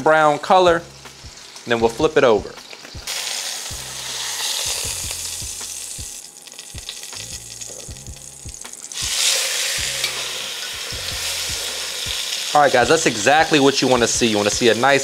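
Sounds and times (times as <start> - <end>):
meat sizzling in oil: 0.9 - 1.9, 2.6 - 15.0.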